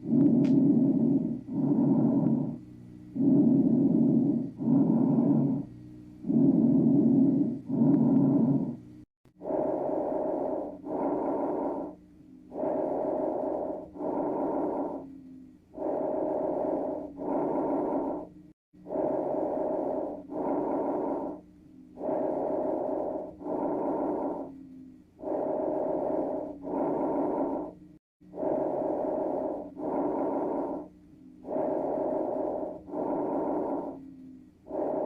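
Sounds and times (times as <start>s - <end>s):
breathing through a stethoscope: 0.0s - 35.0s.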